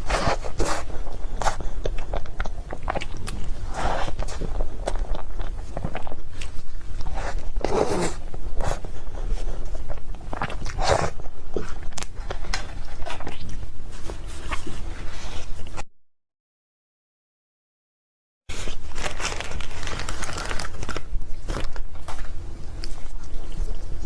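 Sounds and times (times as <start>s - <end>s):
person chewing cake: 0.0s - 15.8s, 18.6s - 24.0s.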